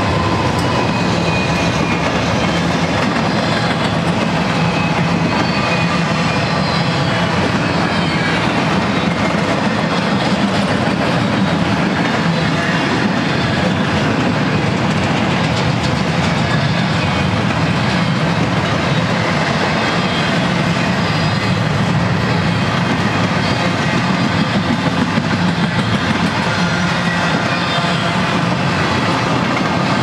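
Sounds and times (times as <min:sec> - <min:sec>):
train wheels running on rails: 0:00.0 - 0:30.0.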